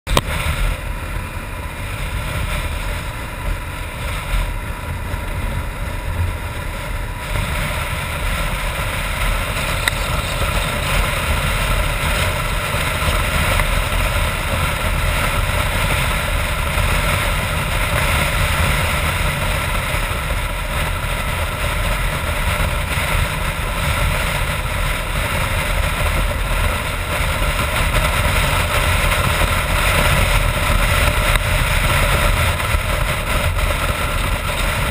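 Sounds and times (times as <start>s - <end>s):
motorcycle engine running: 0.0s - 34.9s
wind rush on microphone: 0.1s - 34.9s.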